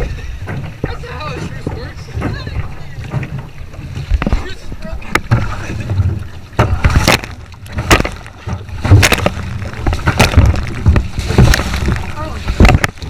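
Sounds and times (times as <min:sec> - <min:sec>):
paddles knocking against canoes: 0:00.0 - 0:13.0
paddles splashing water: 0:00.0 - 0:13.0
wind rumbling on microphone: 0:00.0 - 0:13.0.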